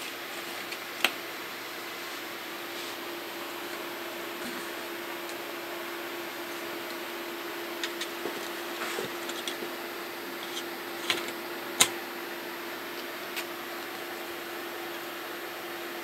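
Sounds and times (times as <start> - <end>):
room noise hum and hiss: 0.0 - 16.0.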